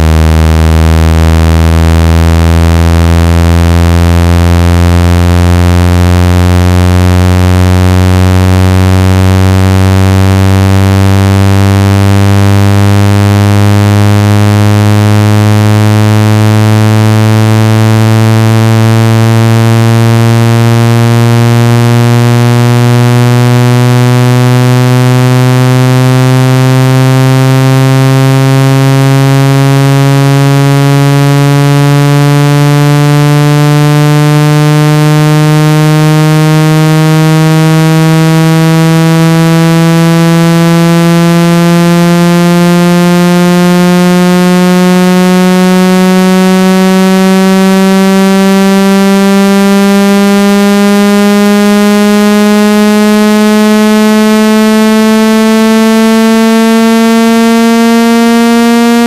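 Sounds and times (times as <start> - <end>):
electronic tone rising in pitch: 0.0 - 59.0.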